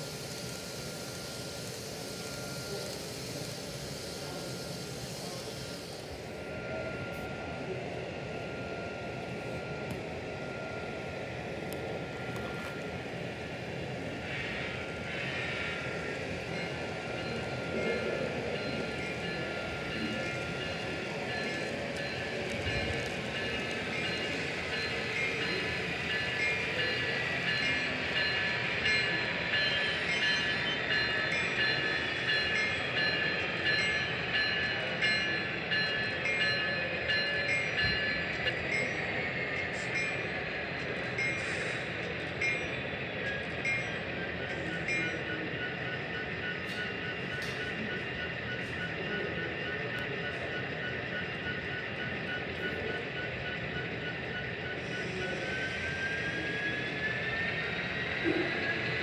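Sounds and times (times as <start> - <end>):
model locomotive running noise: 0.0 - 59.0.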